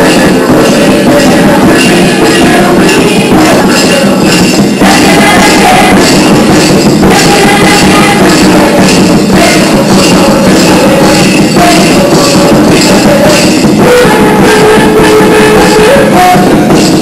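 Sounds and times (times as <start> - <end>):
drumming: 0.0 - 17.0
loud live music: 0.0 - 17.0
people singing: 0.0 - 17.0.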